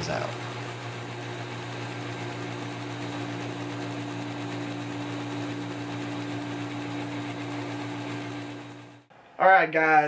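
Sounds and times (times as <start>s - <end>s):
belt grinder motor hum: 0.0s - 9.1s.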